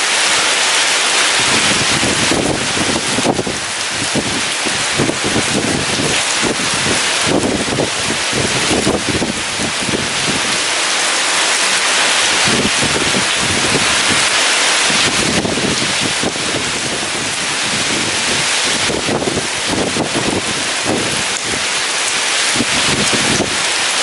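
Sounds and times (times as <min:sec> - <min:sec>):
gusts of wind: 0:00.0 - 0:24.0
heavy rain falling: 0:00.0 - 0:24.0.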